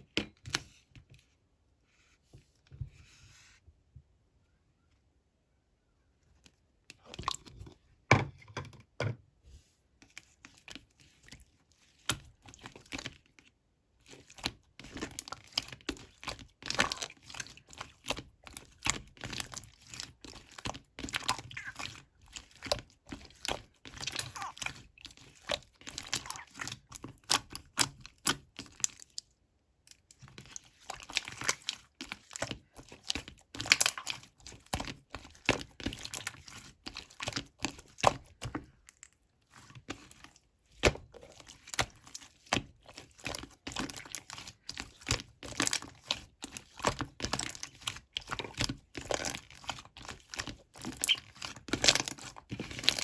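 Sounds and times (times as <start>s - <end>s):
slime wet clicking and crackling: 10.1s - 53.0s.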